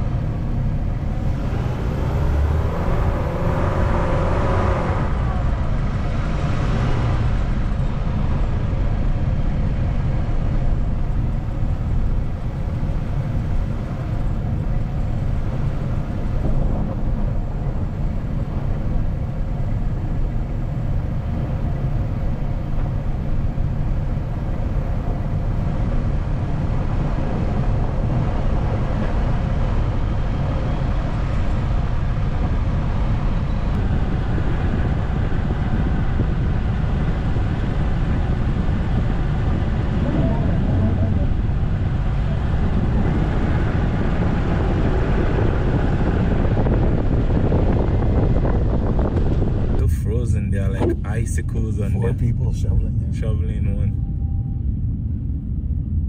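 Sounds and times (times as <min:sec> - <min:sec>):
tyres on snowy road: 0:00.0 - 0:53.9
car engine inside cabin: 0:00.0 - 0:56.0.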